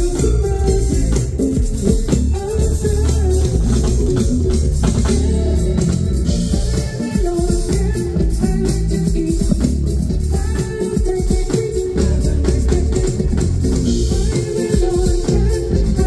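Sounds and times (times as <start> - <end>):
drum kit with cymbal strokes: 0.0 - 16.0
electric bass guitar: 0.0 - 16.0.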